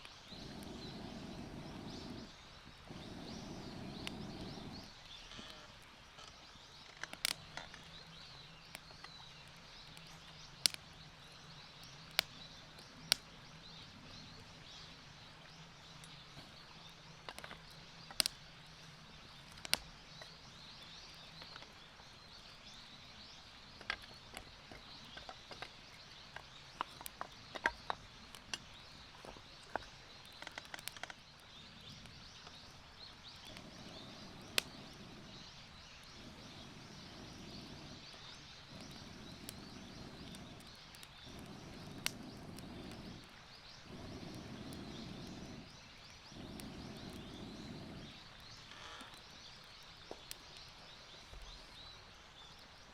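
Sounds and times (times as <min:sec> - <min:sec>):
campfire crackling: 0:00.0 - 0:52.9
faint steady hiss: 0:00.0 - 0:52.9.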